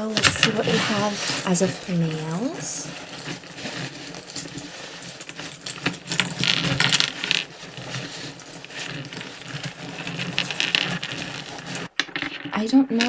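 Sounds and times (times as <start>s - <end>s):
sea shells clinking and rattling: 0.0s - 13.0s.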